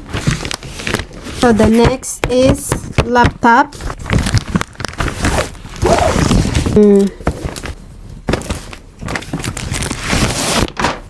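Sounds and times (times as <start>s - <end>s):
packaging rustling and knocking: 0.0s - 11.0s.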